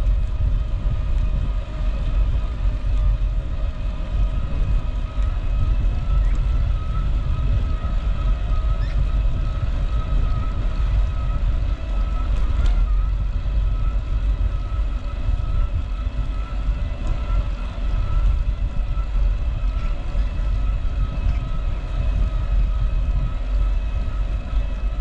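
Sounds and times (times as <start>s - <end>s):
thin whine: 0.0s - 25.0s
wind buffeting microphone: 0.0s - 25.0s.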